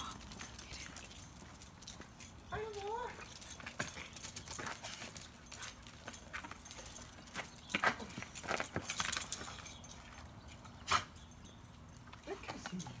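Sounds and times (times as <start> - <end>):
dog collar tags jingling: 0.0 - 13.0.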